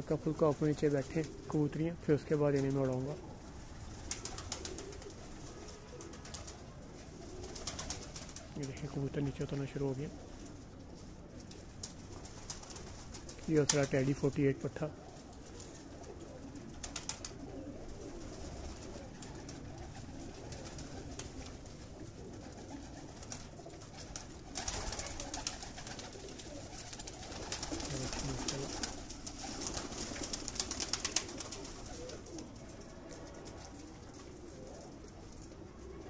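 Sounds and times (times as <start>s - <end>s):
pigeons cooing: 0.0s - 36.0s
wing flapping: 0.9s - 1.6s, 2.4s - 36.0s.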